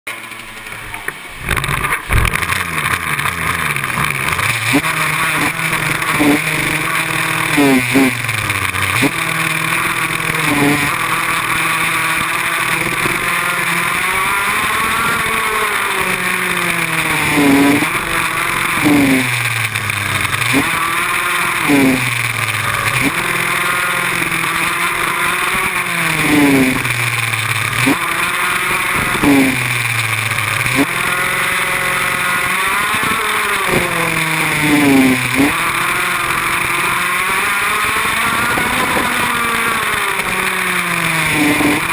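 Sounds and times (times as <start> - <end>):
go-kart engine revving: 0.1 - 41.9.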